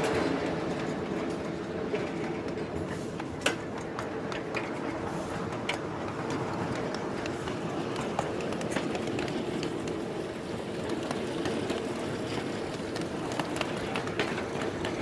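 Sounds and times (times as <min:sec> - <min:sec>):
miniature train running on track: 0:00.0 - 0:15.0
wheels clicking on rails: 0:00.0 - 0:15.0.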